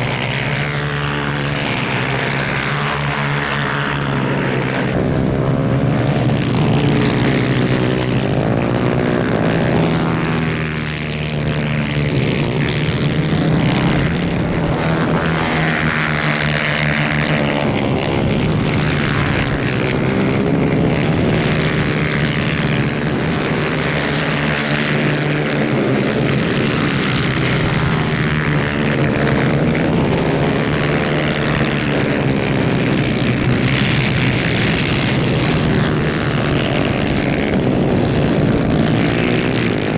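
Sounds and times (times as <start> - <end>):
kart engines racing: 0.0 - 39.9.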